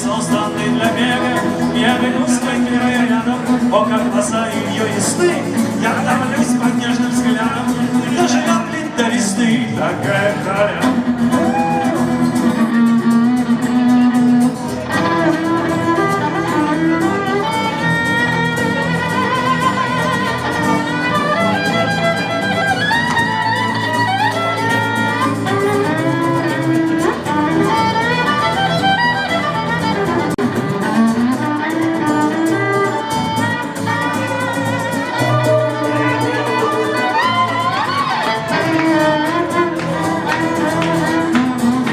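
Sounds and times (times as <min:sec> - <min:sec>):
strummed guitar: 0:00.0 - 0:41.9
violin melody with slides: 0:00.0 - 0:41.9.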